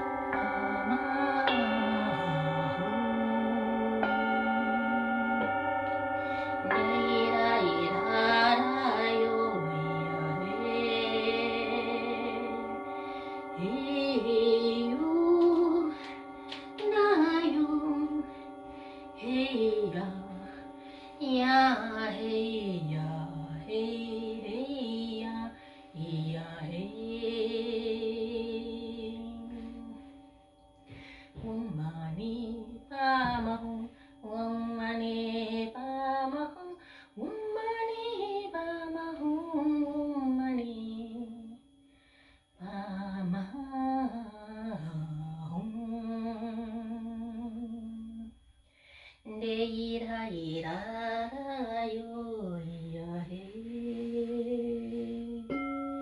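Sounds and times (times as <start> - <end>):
woman singing wordless melody: 0.0 - 41.8, 42.6 - 48.4, 49.1 - 56.0
singing bowls ringing: 0.0 - 56.0.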